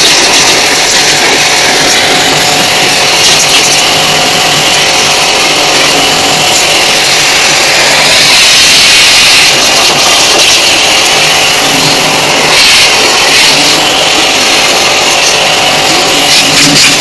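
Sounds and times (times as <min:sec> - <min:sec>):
pressure washer running: 0:00.0 - 0:17.0
water jet hissing on plastic: 0:00.0 - 0:17.0.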